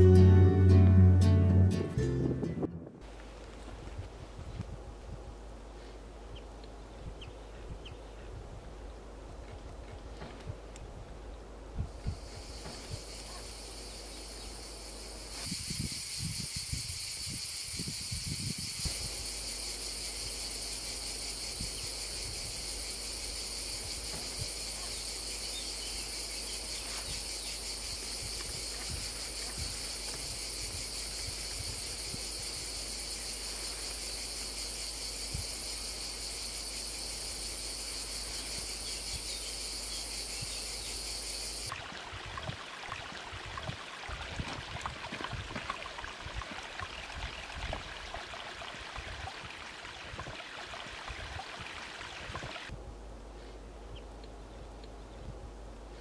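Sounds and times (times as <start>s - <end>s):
high-pitched outdoor hiss: 3.0s - 56.0s.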